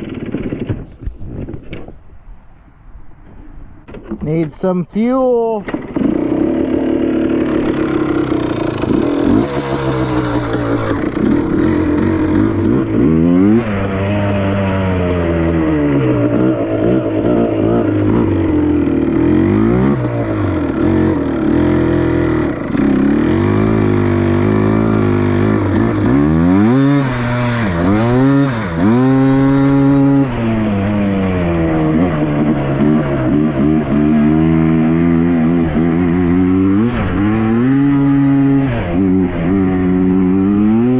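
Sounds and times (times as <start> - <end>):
two-stroke engine revving: 5.6 - 40.9.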